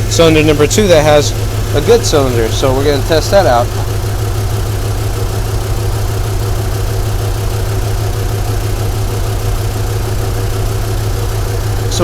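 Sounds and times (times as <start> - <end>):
engine idling with misfire: 0.0 - 12.0.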